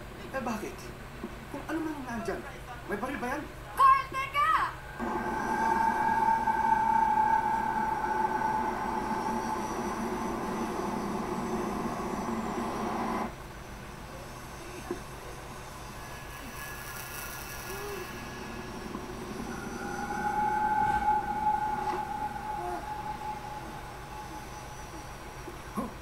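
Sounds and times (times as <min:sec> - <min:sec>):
film soundtrack drone: 0:04.7 - 0:26.0.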